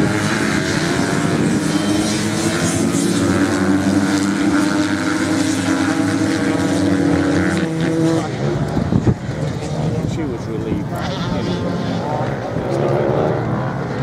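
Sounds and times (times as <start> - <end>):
motocross bike engines racing: 0.0 - 14.0.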